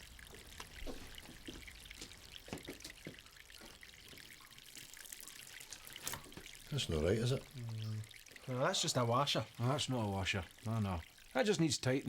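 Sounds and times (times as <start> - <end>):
water dripping and trickling: 0.0 - 12.0.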